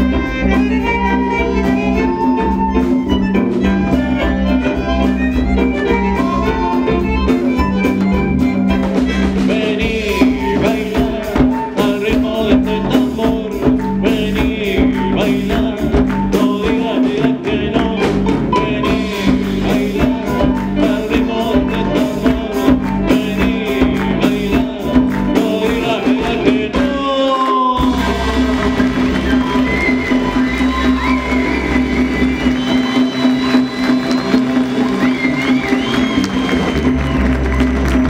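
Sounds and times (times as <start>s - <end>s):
fast hand-drumming: 0.0s - 38.0s
live band melody: 0.0s - 38.0s.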